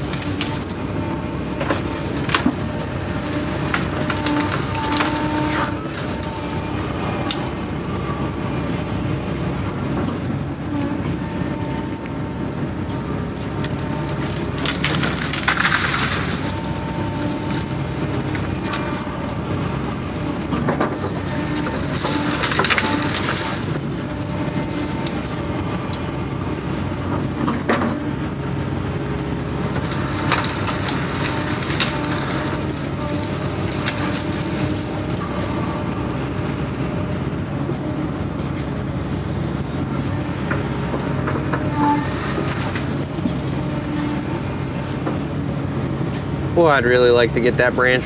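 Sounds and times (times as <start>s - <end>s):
branches crackling and snapping: 0.0s - 10.3s, 10.9s - 48.0s
excavator diesel engine and hydraulics: 0.0s - 48.0s.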